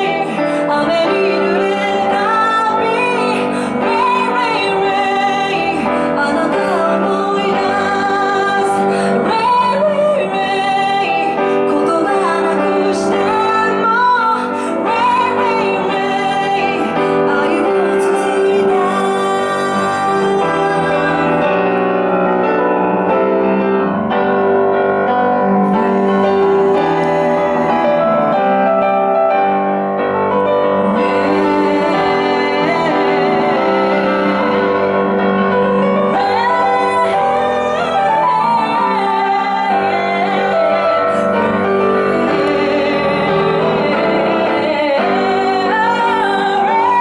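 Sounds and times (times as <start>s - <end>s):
woman singing a slow song: 0.0s - 21.6s, 25.5s - 28.4s, 30.8s - 34.8s, 35.7s - 47.0s
piano playing: 0.0s - 47.0s.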